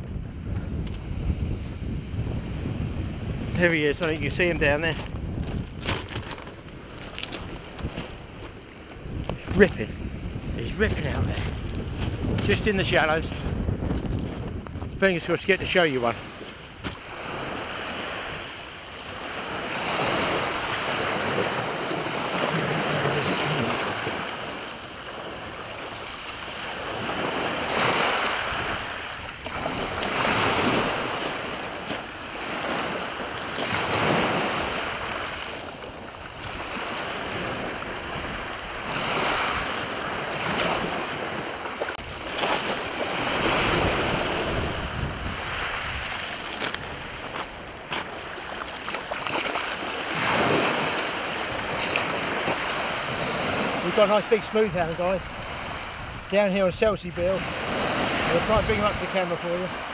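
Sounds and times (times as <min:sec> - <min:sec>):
wind on microphone: 0:00.0 - 0:59.9
small waves breaking: 0:00.6 - 0:14.5, 0:15.2 - 0:59.9.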